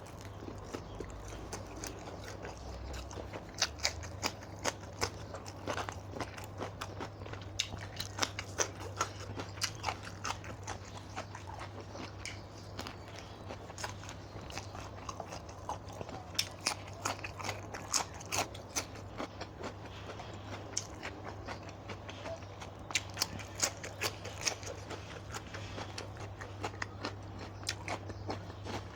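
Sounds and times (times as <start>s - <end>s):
person chewing crunchy food: 0.0s - 28.9s
steady low hum: 0.0s - 28.9s.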